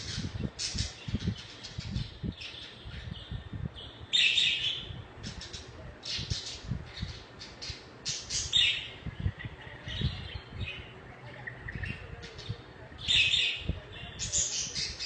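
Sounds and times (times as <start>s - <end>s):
budgerigars chirping and warbling: 0.0s - 15.0s.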